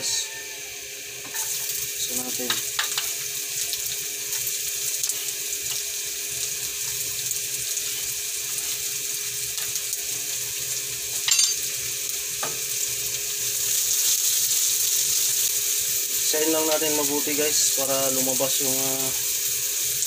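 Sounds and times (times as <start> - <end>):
onion and garlic sizzling in oil: 0.0 - 20.0.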